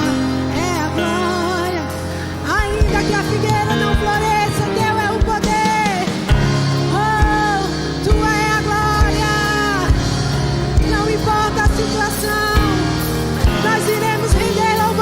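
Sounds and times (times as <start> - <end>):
band playing worship song: 0.0 - 15.0
drum kit beat: 1.8 - 15.0.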